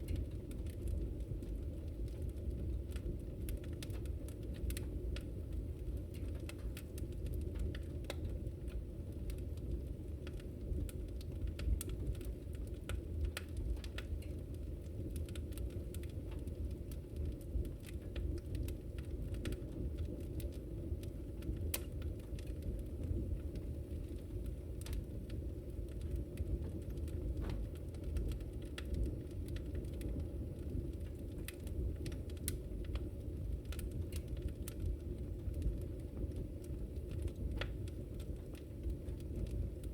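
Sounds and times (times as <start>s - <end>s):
fire crackling and popping: 0.0s - 39.9s
fire roaring: 0.0s - 39.9s.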